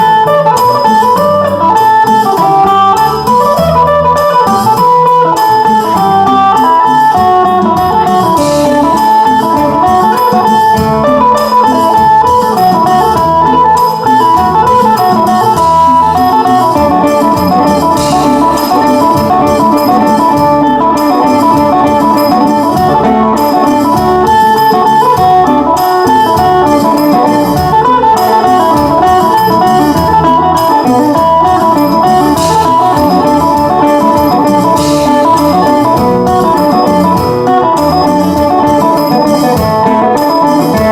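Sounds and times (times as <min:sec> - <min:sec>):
bass: 0:00.0 - 0:40.9
plucked electric lute melody: 0:00.0 - 0:40.9
steady drum beat: 0:00.2 - 0:40.9.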